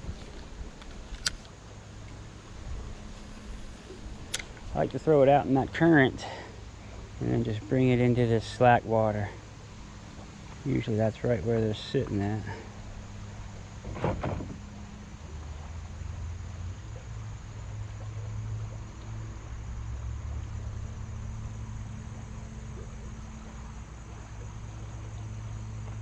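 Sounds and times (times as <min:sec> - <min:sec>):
low engine hum: 0:00.0 - 0:26.0
river water running: 0:00.0 - 0:26.0.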